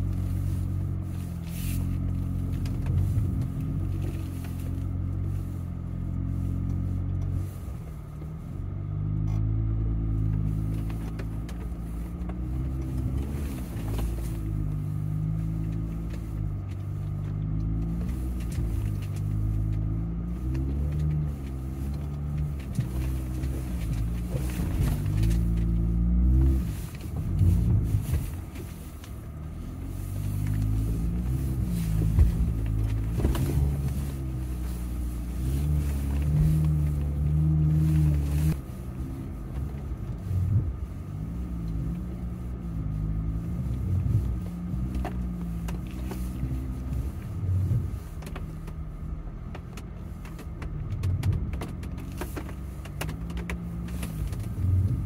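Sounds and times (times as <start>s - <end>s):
vehicle engine in low gear: 0.0s - 55.0s.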